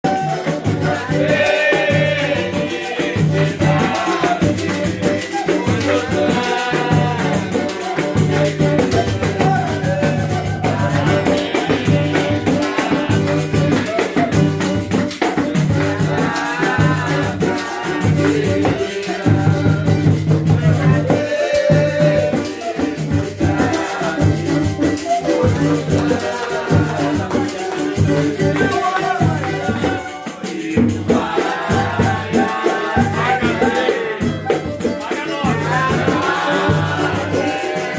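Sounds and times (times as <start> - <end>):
friction drum grunting rhythm: 0.0 - 37.9.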